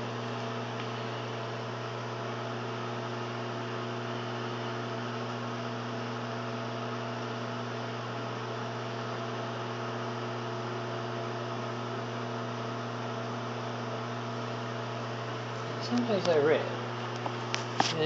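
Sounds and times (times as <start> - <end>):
microwave fan whooshing: 0.0 - 18.0
microwave oven humming: 0.0 - 18.0.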